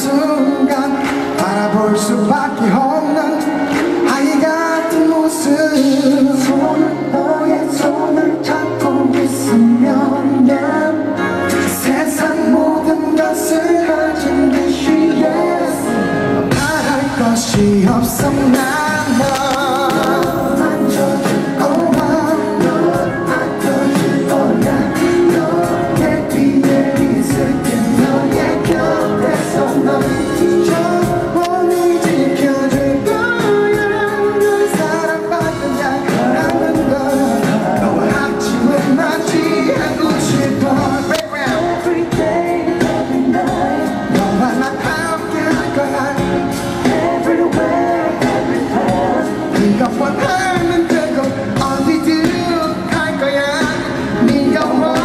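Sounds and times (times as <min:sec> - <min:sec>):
live pop music with singer: 0:00.0 - 0:55.0.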